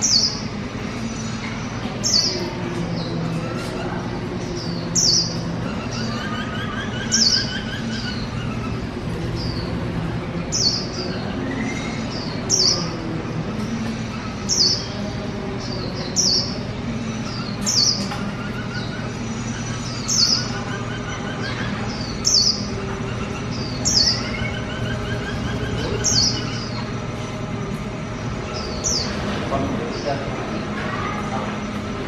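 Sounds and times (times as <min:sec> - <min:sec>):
high falling bird chirp: 0:00.0 - 0:31.9
bird warbling: 0:00.0 - 0:32.0
low hum: 0:00.0 - 0:32.0.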